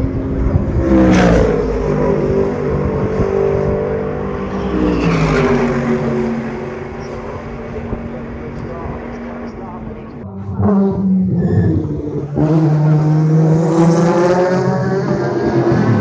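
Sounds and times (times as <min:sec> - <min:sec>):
race cars passing at speed: 0:00.0 - 0:16.0.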